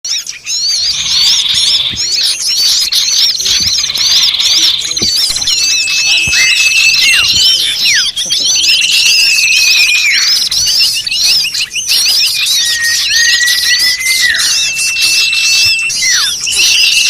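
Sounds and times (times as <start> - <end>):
songbirds chirping chorus: 0.1 - 17.0
long thin whistles: 0.2 - 17.0
fast buzzing trill: 0.7 - 17.0.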